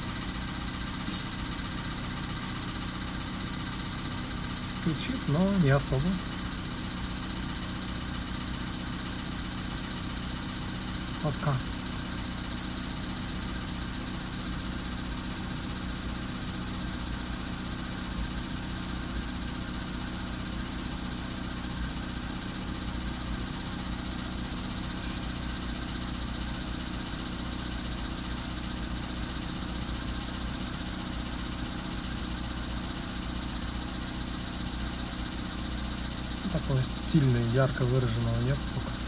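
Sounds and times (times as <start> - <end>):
car engine idling with light knock: 0.0 - 39.0.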